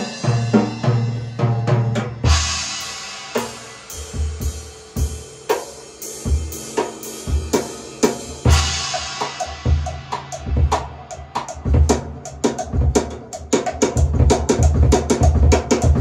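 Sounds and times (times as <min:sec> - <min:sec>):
drum kit beat: 0:00.0 - 0:16.0.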